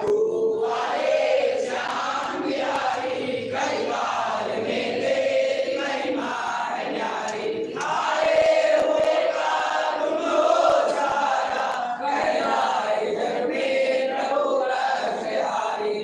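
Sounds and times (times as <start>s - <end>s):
group chanting: 0.0s - 16.0s.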